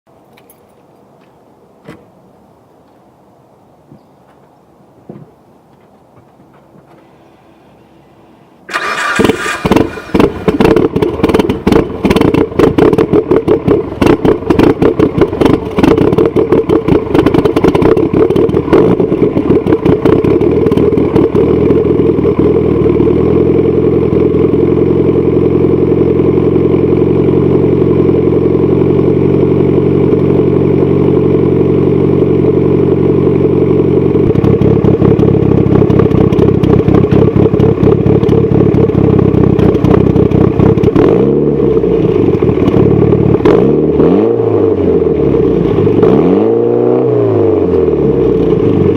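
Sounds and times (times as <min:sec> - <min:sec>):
car engine starting and idling: 0:06.8 - 0:48.9
choppy pulsing exhaust note: 0:09.6 - 0:48.9.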